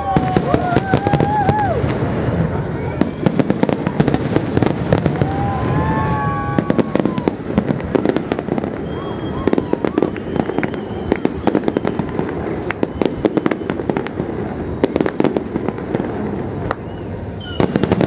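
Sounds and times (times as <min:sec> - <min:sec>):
fireworks bangs and crackling pops: 0:00.0 - 0:18.0
rumble of explosions: 0:00.0 - 0:18.0.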